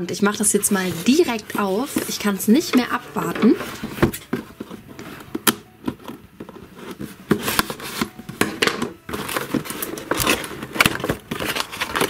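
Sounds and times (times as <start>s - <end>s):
cardboard box scraping and rustling: 0.3s - 12.0s.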